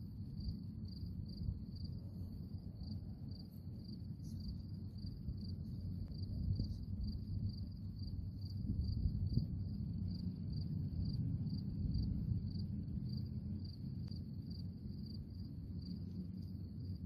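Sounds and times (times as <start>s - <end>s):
cricket chirping: 0.0s - 17.0s
low background rumble: 0.0s - 17.0s.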